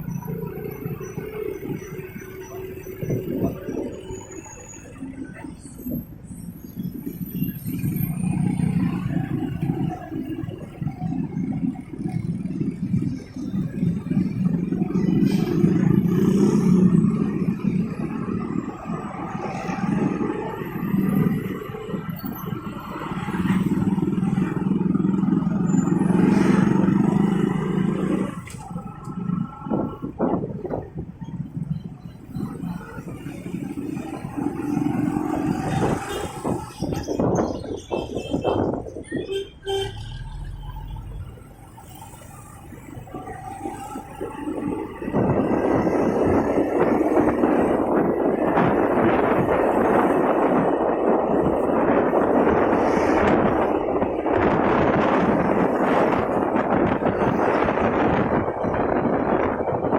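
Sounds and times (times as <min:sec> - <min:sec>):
traffic engines: 0:00.0 - 0:59.9.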